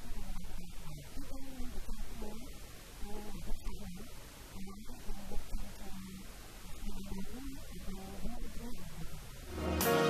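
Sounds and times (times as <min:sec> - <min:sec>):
low background hum: 0:00.0 - 0:09.8.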